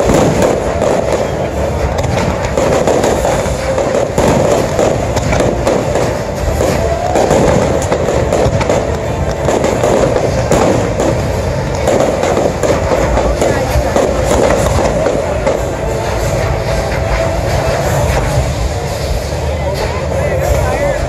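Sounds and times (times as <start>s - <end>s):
fireworks bangs and crackles: 0.0s - 21.0s
rush of burning fountains: 0.0s - 21.0s
show music: 0.0s - 21.0s.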